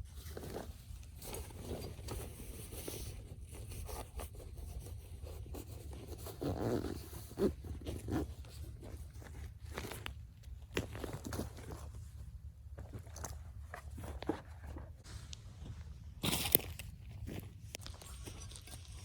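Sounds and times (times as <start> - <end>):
rustling and scraping: 0.0 - 19.0.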